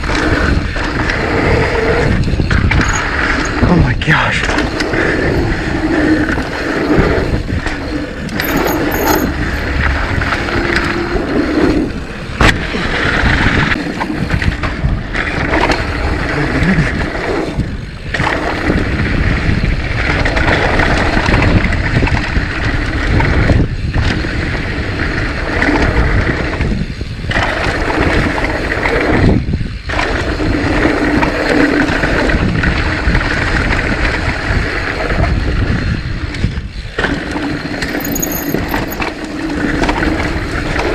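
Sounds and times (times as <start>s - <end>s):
bike rattling: 0.0s - 3.8s, 4.4s - 40.9s
wind rush: 0.0s - 36.7s.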